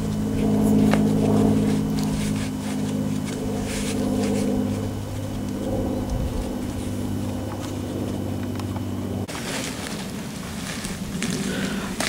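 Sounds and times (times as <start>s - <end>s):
engine idling: 0.0s - 12.0s
rustles and clicks: 0.0s - 12.0s.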